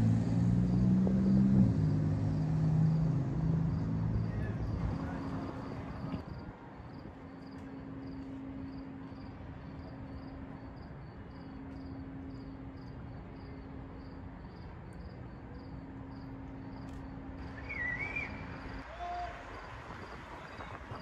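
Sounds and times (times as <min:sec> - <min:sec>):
crickets chirping: 0:00.1 - 0:21.0.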